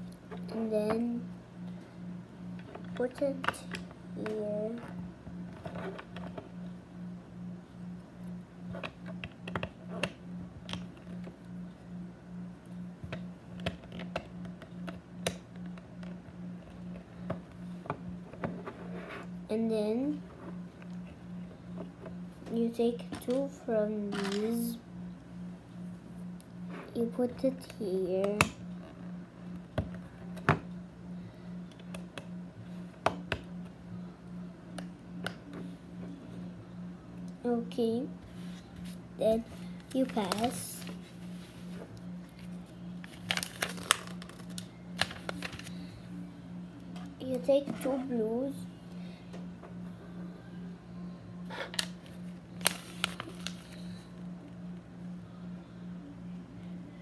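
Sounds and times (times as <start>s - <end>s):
low pulsing hum: 0.0s - 57.0s.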